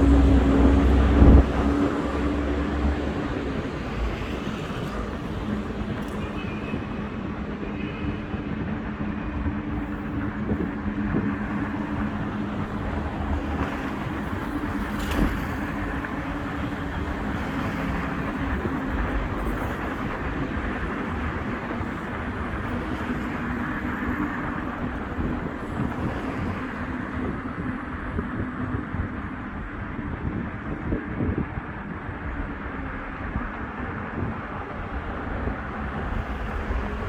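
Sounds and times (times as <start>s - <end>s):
road traffic rumble on bridge: 0.0s - 37.0s.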